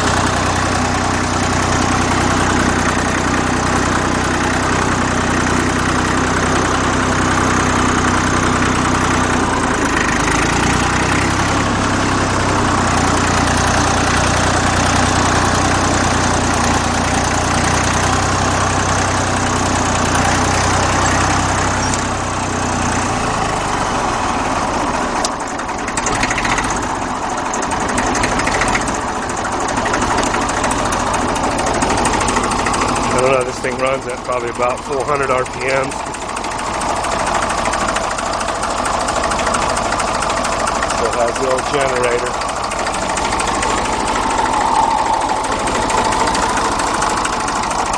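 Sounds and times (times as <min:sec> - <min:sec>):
diesel tractor engine idling: 0:00.0 - 0:47.9
water pump bearing roar: 0:00.0 - 0:47.9.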